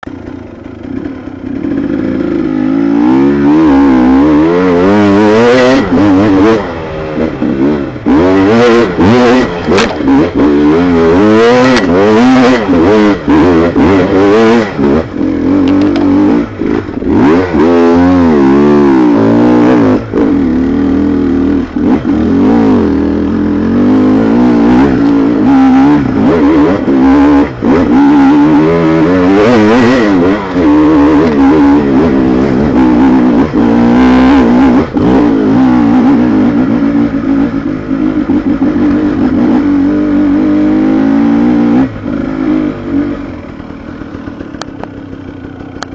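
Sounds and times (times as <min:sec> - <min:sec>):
engine revving: 0:00.8 - 0:45.9.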